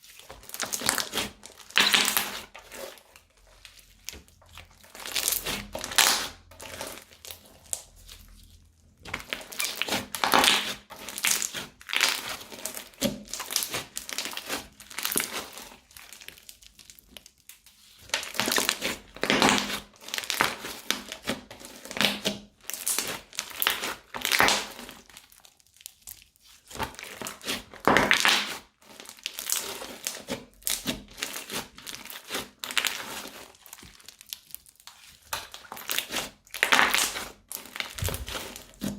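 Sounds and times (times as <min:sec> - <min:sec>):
crunchy slime crackling: 0:00.1 - 0:22.0, 0:22.6 - 0:38.9.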